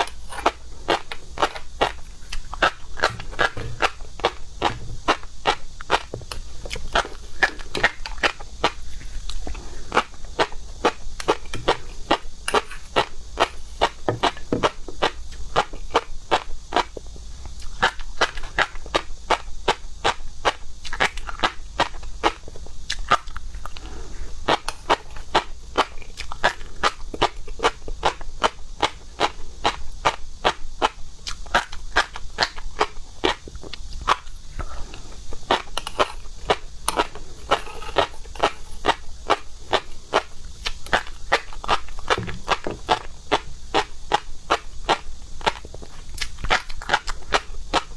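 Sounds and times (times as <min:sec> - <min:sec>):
crunchy chewing: 0:00.0 - 0:47.9.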